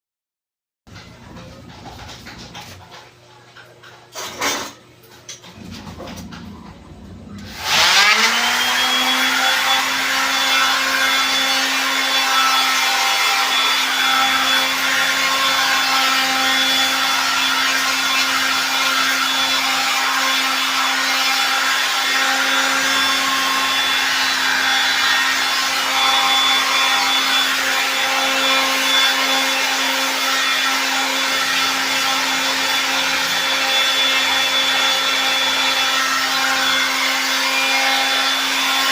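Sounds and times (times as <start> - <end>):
power tool motor whining: 7.3 - 38.9.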